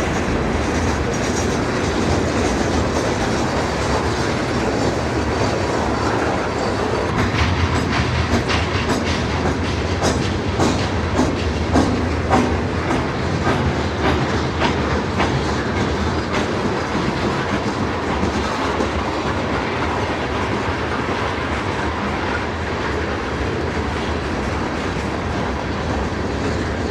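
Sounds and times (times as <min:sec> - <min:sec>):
rumble of steel wheels on rail: 0:00.0 - 0:26.9
train wheels clicking over rail joints: 0:00.0 - 0:26.9.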